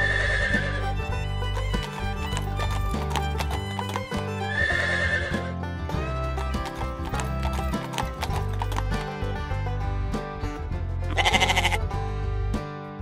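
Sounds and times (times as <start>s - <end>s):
background music with steady beat: 0.0s - 13.0s.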